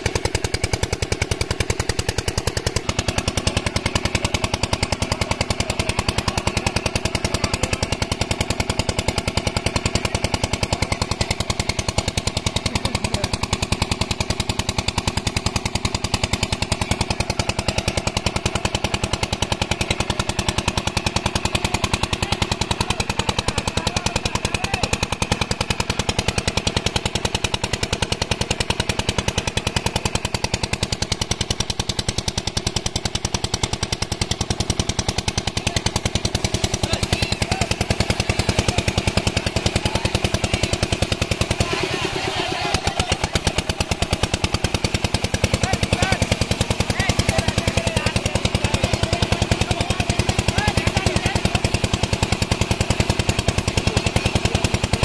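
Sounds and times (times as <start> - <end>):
small diesel engine running: 0.0 - 55.0.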